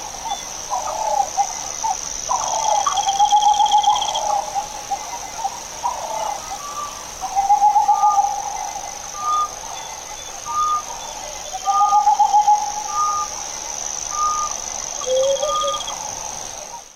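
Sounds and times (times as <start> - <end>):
high-pitched insect drone: 0.0 - 16.9.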